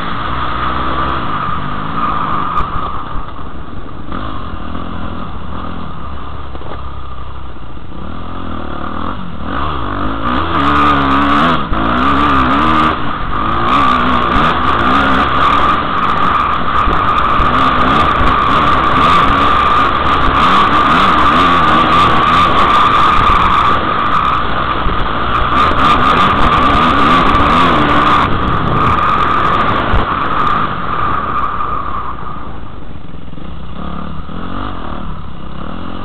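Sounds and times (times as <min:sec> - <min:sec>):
dirt bike engine revving: 0:00.0 - 0:06.3, 0:07.8 - 0:32.5, 0:33.2 - 0:36.0.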